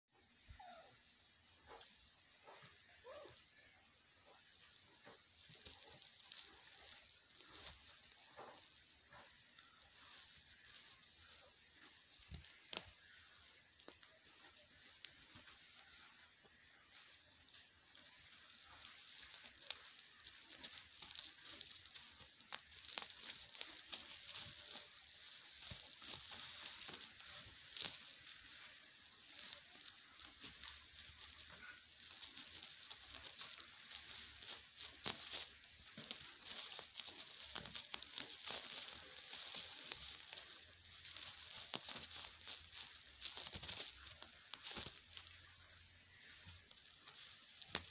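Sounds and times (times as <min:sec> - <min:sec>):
plastic sacks crinkling: 0:00.6 - 0:47.9.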